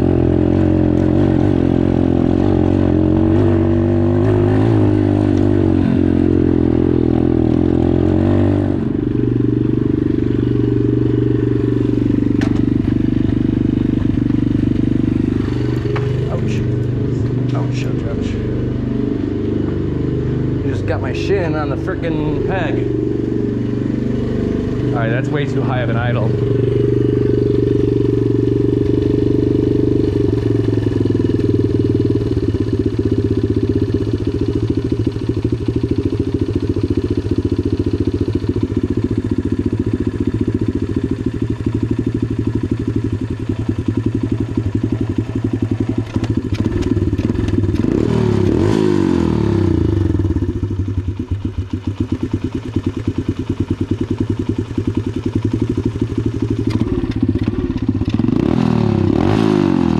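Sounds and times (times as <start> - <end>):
dirt bike engine idling: 0.0 - 59.9.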